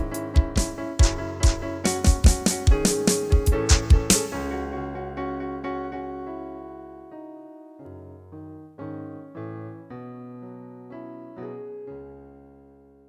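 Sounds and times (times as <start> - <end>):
slow keyboard music: 0.0 - 13.0.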